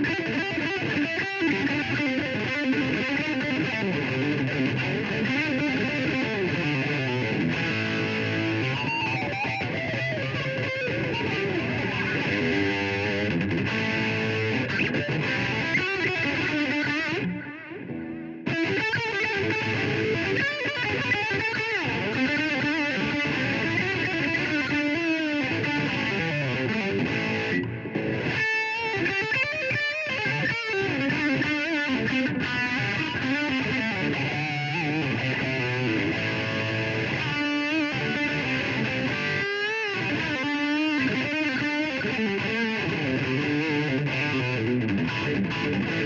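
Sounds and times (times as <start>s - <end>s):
electric guitar with bent notes: 0.0s - 46.0s.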